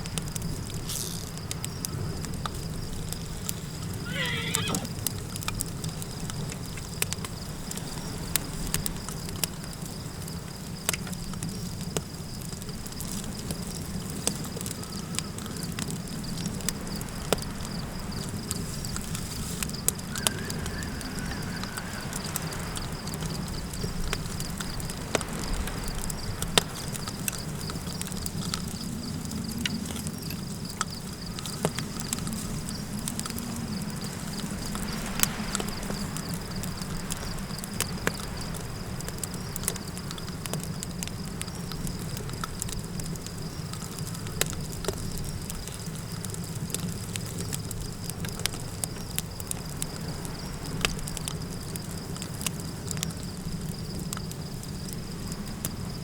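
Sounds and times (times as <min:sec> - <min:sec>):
campfire crackling: 0:00.0 - 0:56.0
insect trill: 0:00.0 - 0:56.0.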